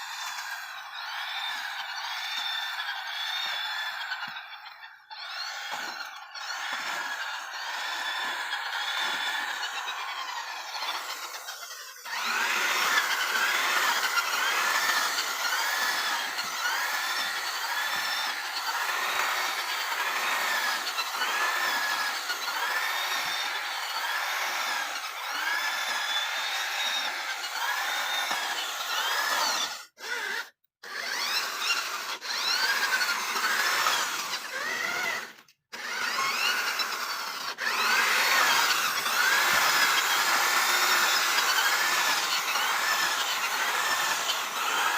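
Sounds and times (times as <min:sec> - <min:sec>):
electric motor whining: 0:00.0 - 0:44.9.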